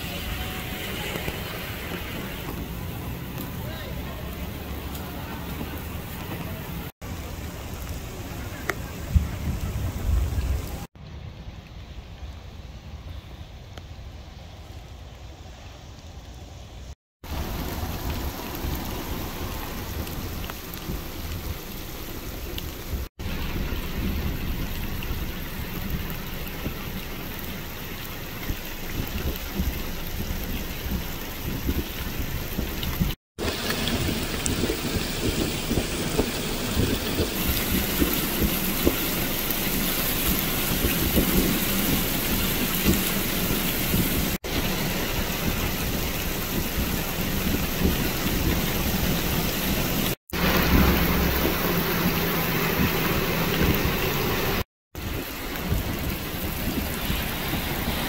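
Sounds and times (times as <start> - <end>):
heavy rain pouring: 0.0 - 11.0, 17.2 - 58.0
deep rumble: 0.0 - 13.3, 17.2 - 58.0.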